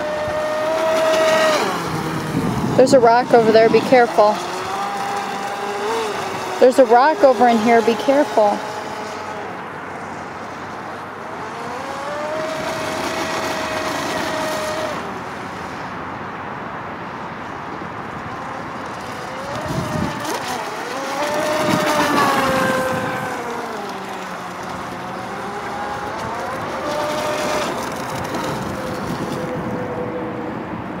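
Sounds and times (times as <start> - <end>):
electric motor whining: 0.0 - 16.0, 18.3 - 30.5.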